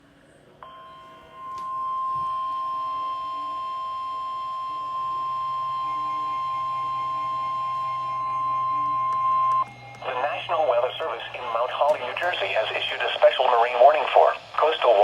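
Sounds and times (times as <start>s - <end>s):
steady high alarm tone: 0.6s - 15.0s.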